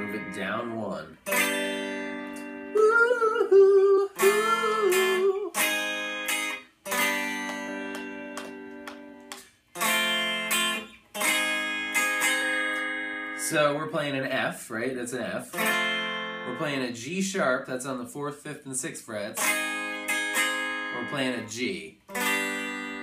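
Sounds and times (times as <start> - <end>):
electric guitar chords ringing: 0.0 - 13.7, 15.5 - 16.8, 19.4 - 23.0.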